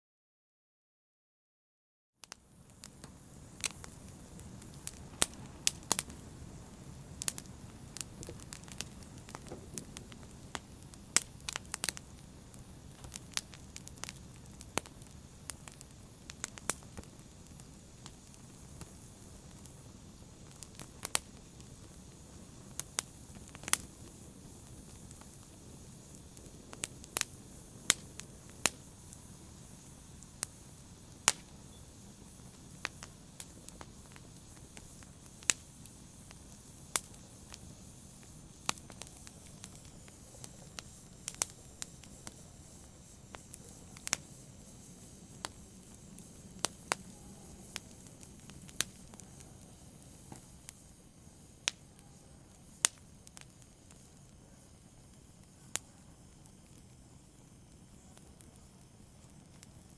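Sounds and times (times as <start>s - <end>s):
fire rumble and hiss: 2.2s - 59.9s
wood fire crackles and pops: 2.2s - 59.9s.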